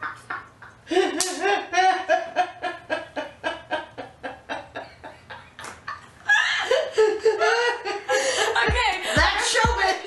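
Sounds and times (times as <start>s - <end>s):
women laughing hard: 0.0s - 9.6s.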